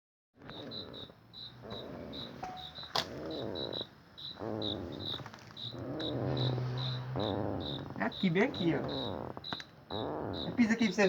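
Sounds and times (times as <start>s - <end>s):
crickets chirping: 0.5s - 11.0s.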